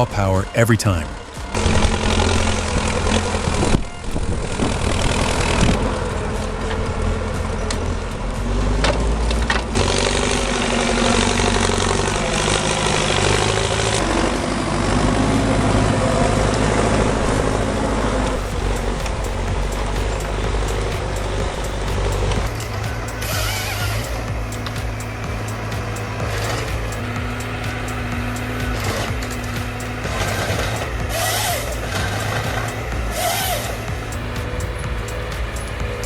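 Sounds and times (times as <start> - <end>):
heavy vehicle engine droning: 0.0 - 36.0.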